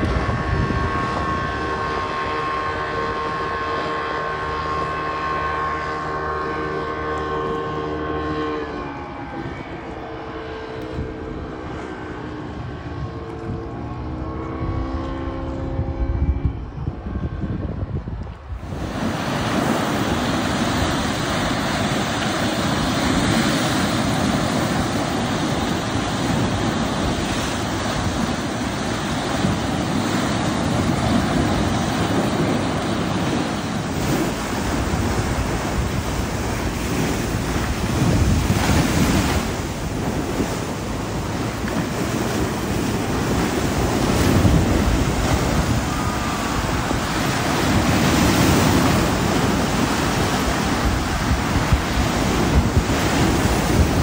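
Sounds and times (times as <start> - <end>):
surf rushing: 0.0 - 14.5, 18.4 - 54.0
wind buffeting microphone: 0.0 - 54.0.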